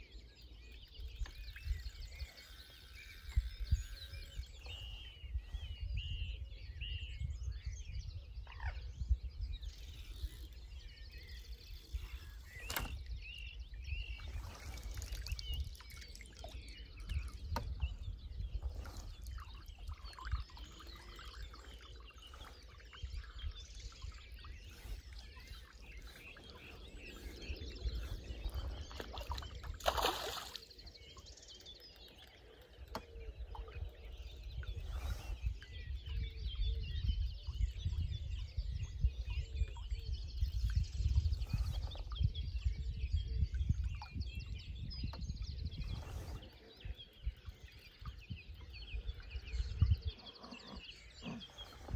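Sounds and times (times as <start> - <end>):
birdsong chirps: 0.0 - 51.9
wind rumbling on microphone: 0.0 - 51.9.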